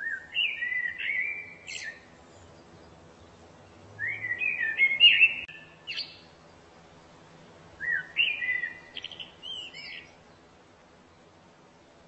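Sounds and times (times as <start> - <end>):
songbird singing whistled notes: 0.0 - 7.0, 7.8 - 10.5.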